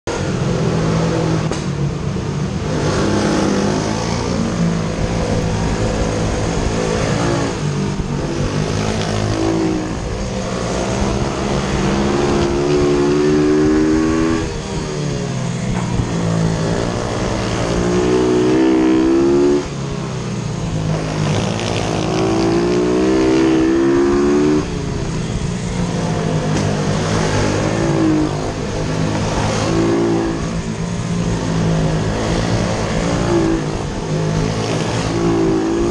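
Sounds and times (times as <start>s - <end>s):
motorbike engine revving: 0.1s - 35.9s.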